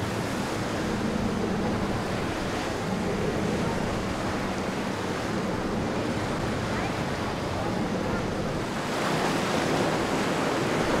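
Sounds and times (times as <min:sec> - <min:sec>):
ocean waves and surf: 0:00.0 - 0:11.0
wind buffeting microphone: 0:00.0 - 0:11.0.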